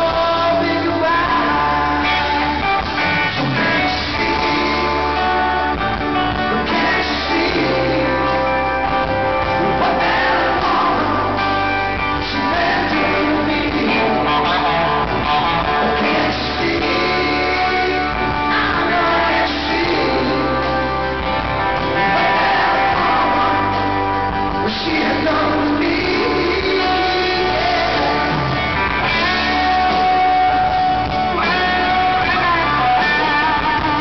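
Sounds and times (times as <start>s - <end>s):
bass guitar: 0.0s - 34.0s
drums: 0.0s - 34.0s
electric guitar: 0.0s - 34.0s
man singing: 0.0s - 34.0s.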